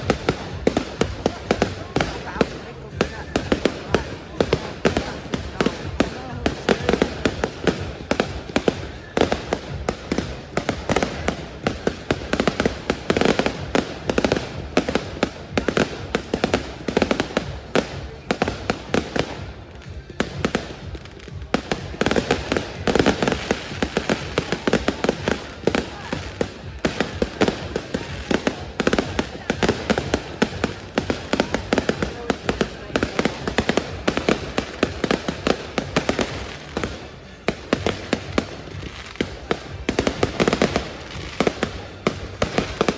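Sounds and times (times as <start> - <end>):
fireworks crackling: 0.0 - 42.9.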